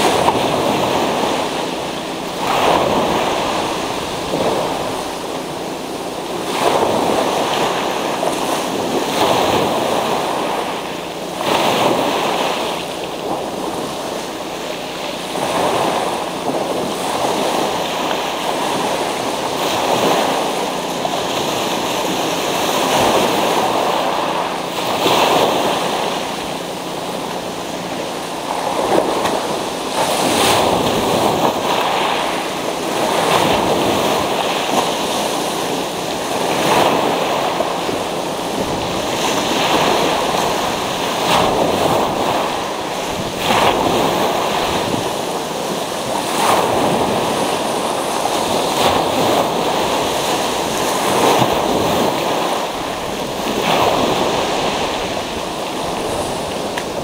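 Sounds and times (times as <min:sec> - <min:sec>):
surf washing on pebble beach: 0:00.0 - 0:57.0.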